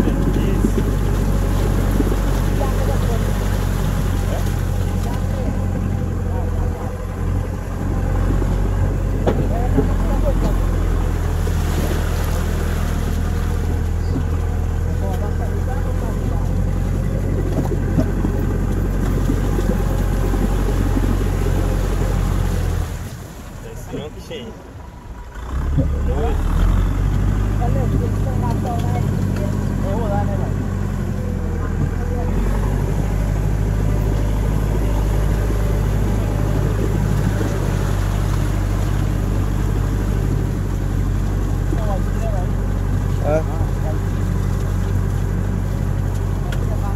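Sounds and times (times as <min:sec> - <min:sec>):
vehicle engine droning: 0:00.0 - 0:46.9.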